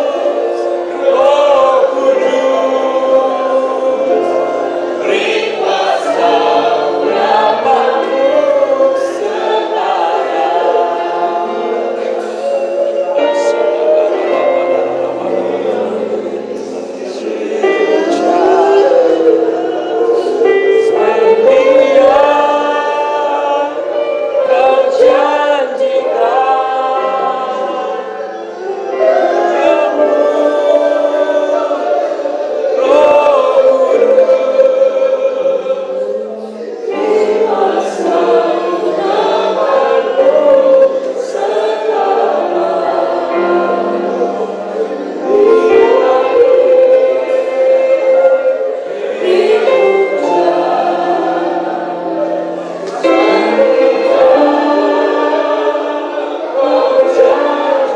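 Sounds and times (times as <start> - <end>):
many voices singing: 0.0 - 57.9.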